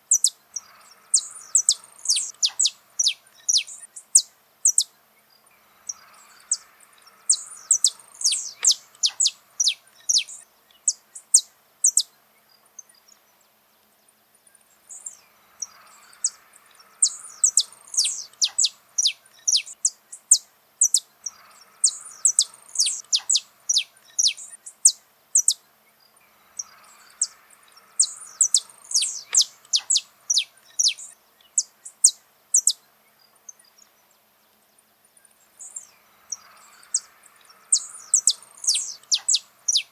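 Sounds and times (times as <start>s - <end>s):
finch singing: 0.1s - 13.3s, 14.7s - 33.9s, 35.3s - 39.9s.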